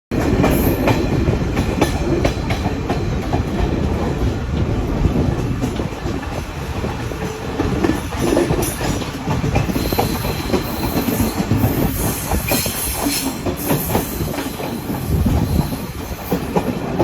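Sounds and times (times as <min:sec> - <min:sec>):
train rumbling: 0:00.1 - 0:17.0
wheels clacking over rail joints: 0:00.1 - 0:17.0.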